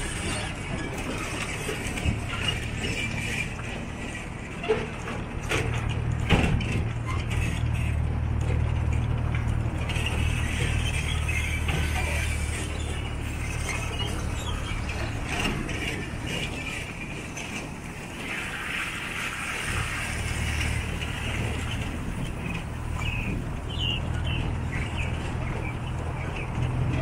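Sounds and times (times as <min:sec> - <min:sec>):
passenger carriages rattling: 0:00.0 - 0:27.0
vehicle engine droning: 0:00.0 - 0:27.0.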